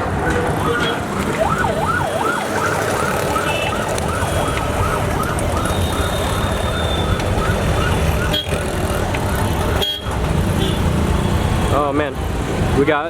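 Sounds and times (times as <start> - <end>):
emergency vehicle siren: 0.0 - 10.5
street traffic rumble: 0.0 - 13.0.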